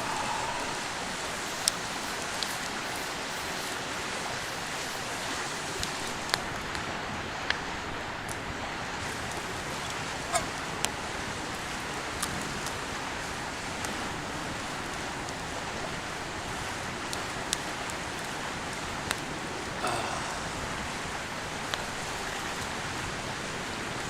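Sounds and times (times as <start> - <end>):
river flowing: 0.0 - 24.0.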